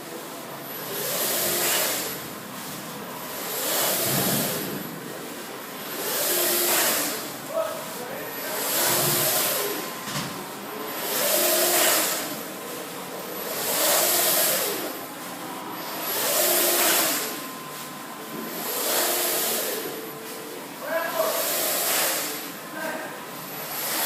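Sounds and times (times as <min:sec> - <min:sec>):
inkjet printer carriage sweeping: 0:00.4 - 0:22.6.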